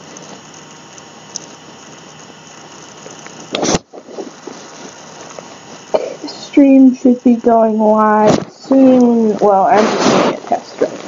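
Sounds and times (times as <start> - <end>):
microphone background hiss: 0.0 - 11.0.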